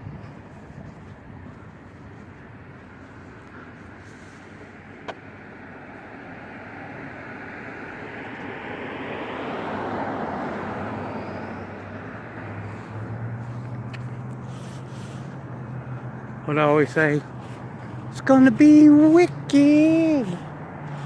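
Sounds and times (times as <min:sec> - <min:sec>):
low engine hum: 0:00.0 - 0:21.0
motor vehicle passing: 0:00.0 - 0:21.0.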